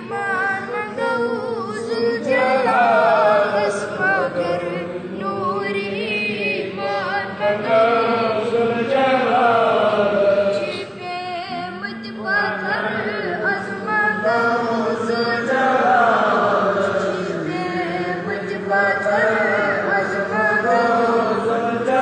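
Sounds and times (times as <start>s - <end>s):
person singing devotional chant: 0.0s - 22.0s.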